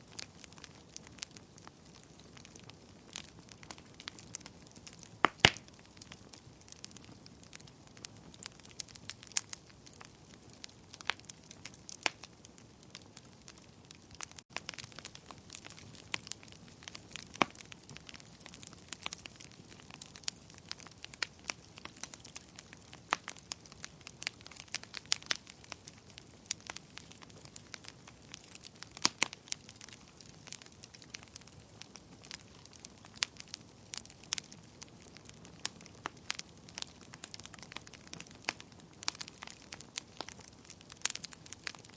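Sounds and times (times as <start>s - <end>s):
fire crackling and popping: 0.0s - 41.9s
soft steady hiss: 0.0s - 41.9s.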